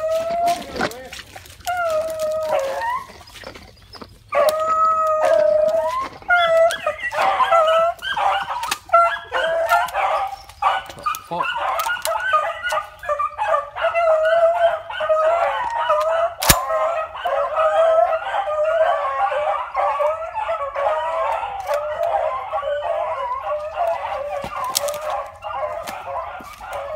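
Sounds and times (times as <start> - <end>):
dogs baying: 0.0 - 26.9.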